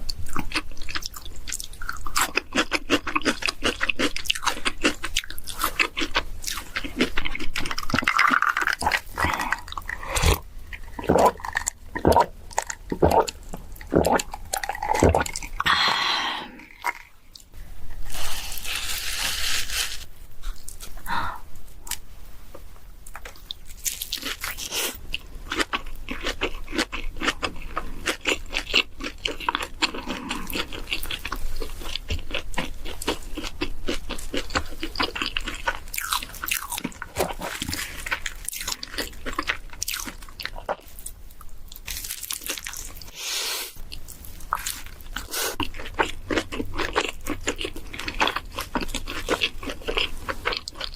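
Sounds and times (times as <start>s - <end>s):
person chewing crunchy food: 0.0s - 15.8s, 16.5s - 21.1s, 23.1s - 43.2s, 43.8s - 50.9s.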